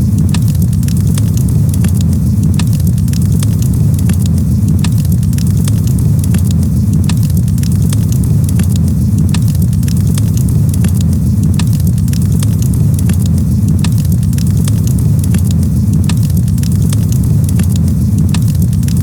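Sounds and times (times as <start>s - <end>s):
campfire crackling and popping: 0.0s - 19.0s
steady low rumble: 0.0s - 19.0s.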